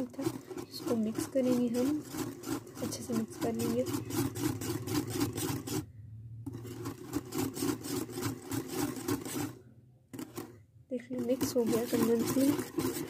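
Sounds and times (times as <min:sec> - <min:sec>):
whisk beating cream in a bowl: 0:00.0 - 0:05.9, 0:06.5 - 0:13.0.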